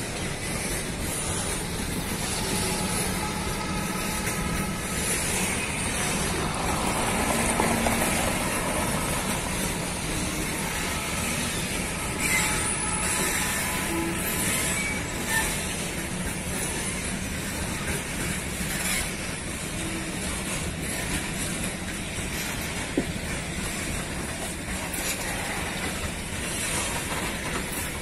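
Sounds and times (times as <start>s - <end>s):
freight train rolling past: 0.0s - 28.0s
train cars clanking: 0.0s - 28.0s.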